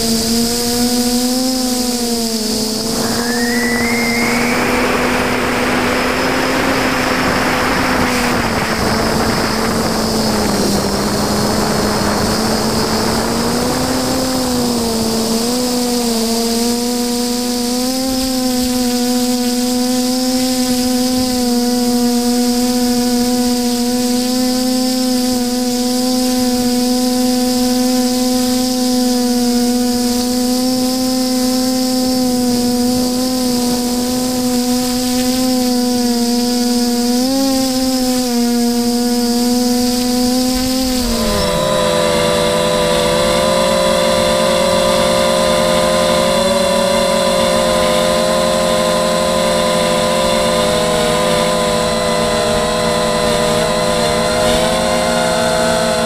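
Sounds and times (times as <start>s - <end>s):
electric motors and propellers whining: 0.0s - 56.0s.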